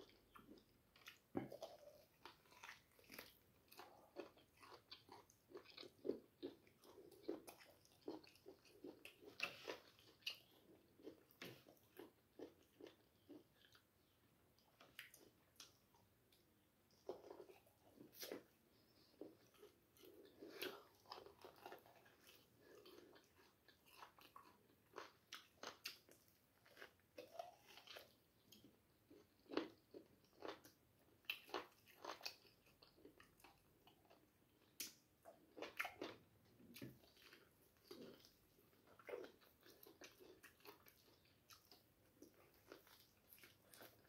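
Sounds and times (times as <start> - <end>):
chewing and biting: 0.0 - 13.9, 17.0 - 44.0.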